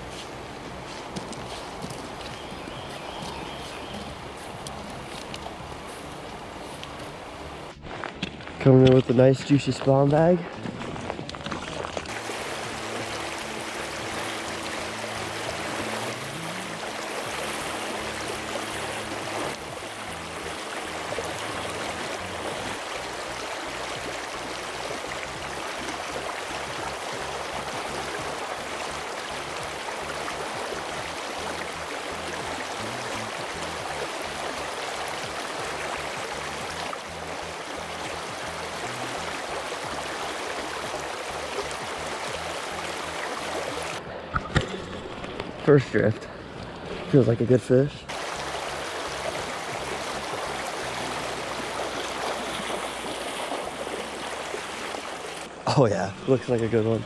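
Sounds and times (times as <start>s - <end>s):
river flowing over rocks: 0.0s - 7.8s, 10.5s - 45.6s, 48.1s - 56.9s.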